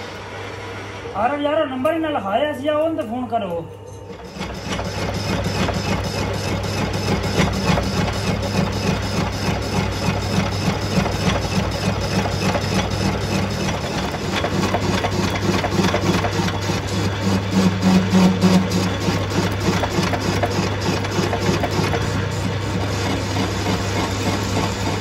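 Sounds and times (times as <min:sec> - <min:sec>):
metal lathe humming: 0:03.7 - 0:25.0
lathe cutting clatter: 0:04.1 - 0:25.0.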